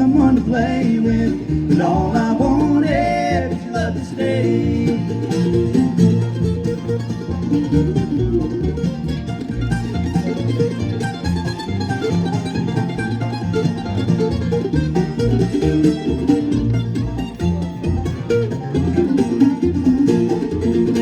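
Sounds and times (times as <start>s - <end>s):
bass line: 0.0s - 21.0s
guitar: 0.0s - 21.0s
mandolin: 0.0s - 21.0s
picked banjo: 0.0s - 21.0s.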